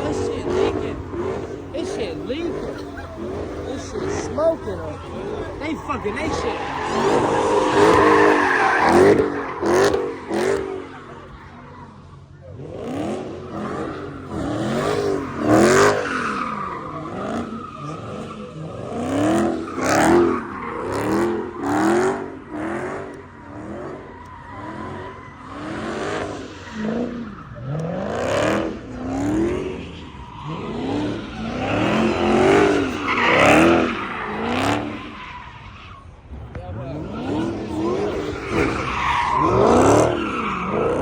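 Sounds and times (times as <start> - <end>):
car engines revving: 0.0 - 41.0
tyres squealing and skidding: 0.0 - 41.0.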